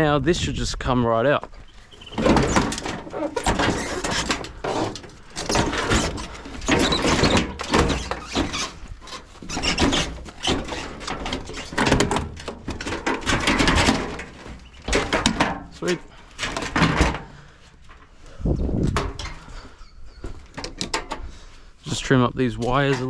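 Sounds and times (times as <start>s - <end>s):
metal and plastic scraping: 1.5s - 21.4s, 22.5s - 23.0s
parts rattling and clunking: 1.6s - 21.5s, 22.4s - 23.0s.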